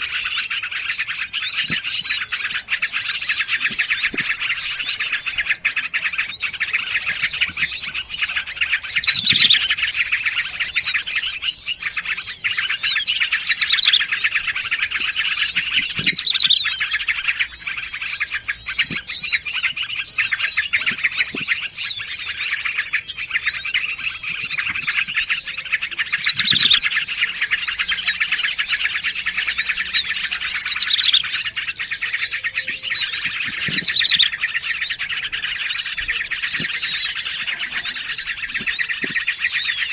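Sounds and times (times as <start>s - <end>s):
loud falling bird call: 0.0s - 39.9s
songbirds chirping and twittering: 0.0s - 39.9s.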